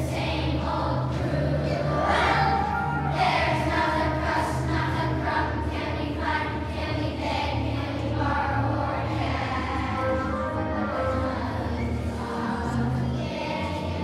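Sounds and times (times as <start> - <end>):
children's choir singing: 0.0 - 14.0
instrumental accompaniment with bass: 0.0 - 14.0.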